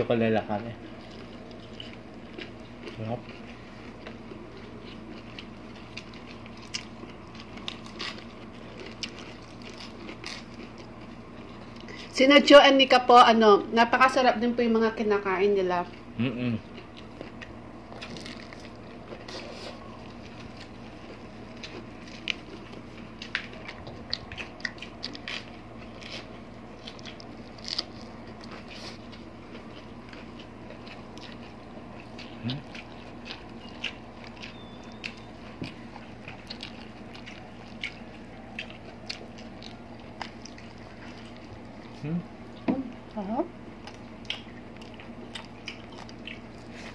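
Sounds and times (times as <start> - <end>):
faint low hum: 0.0 - 46.9
chewing and mouth clicks: 0.8 - 12.2, 15.8 - 43.2, 43.8 - 46.9
crunching lettuce: 0.8 - 12.2, 16.2 - 42.4, 43.8 - 46.9.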